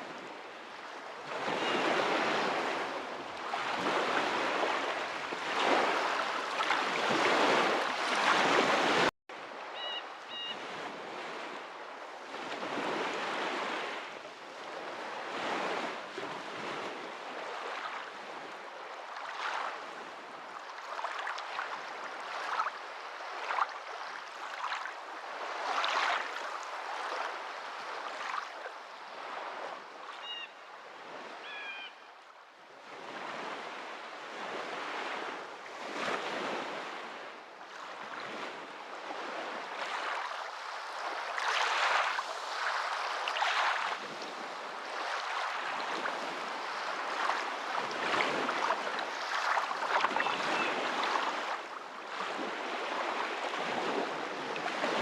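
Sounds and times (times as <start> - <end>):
waves washing onto shore: 0.0 - 31.7, 32.7 - 55.0.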